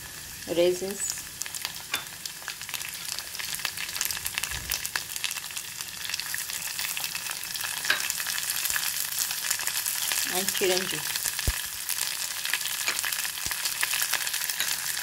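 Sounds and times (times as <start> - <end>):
dried fruit sizzling in ghee: 0.0 - 15.0.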